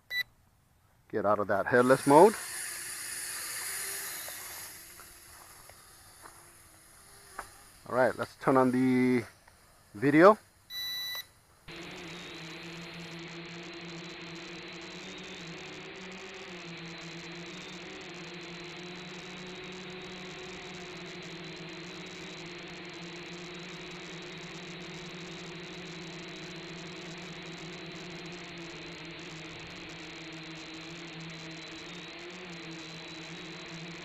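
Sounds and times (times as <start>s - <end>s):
quadcopter motors whirring: 1.6s - 34.0s.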